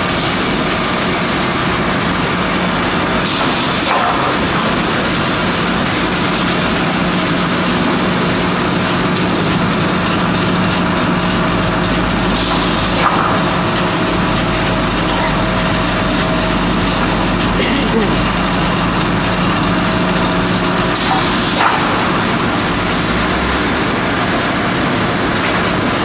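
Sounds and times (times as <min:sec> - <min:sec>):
constant hum: 0:00.0 - 0:26.0
wood-processing machine running: 0:00.0 - 0:26.0.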